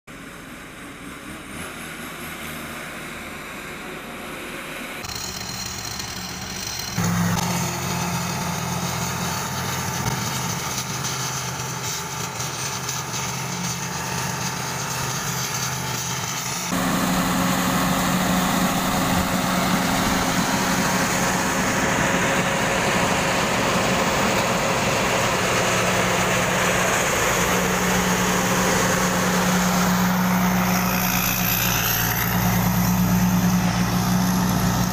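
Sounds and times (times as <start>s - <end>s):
combine harvester engine humming: 0.1s - 34.9s.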